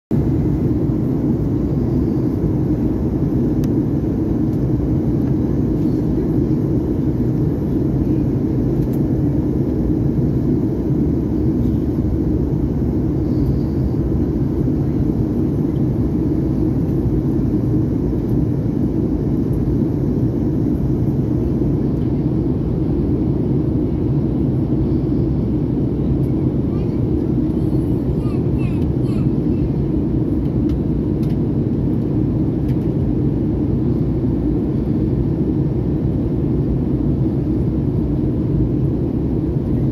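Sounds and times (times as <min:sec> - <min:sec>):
airliner cabin drone: 0:00.1 - 0:39.9.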